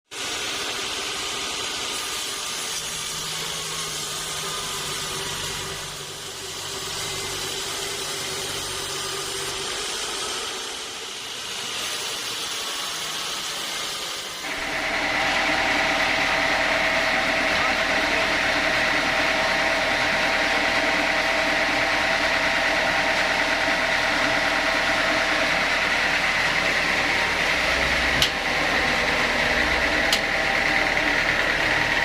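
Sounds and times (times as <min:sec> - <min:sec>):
sawmill saw running: 0:00.1 - 0:32.0.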